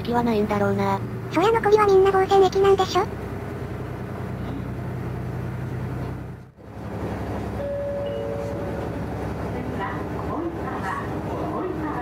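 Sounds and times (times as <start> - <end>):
diesel railcar rumbling: 0.0 - 12.0.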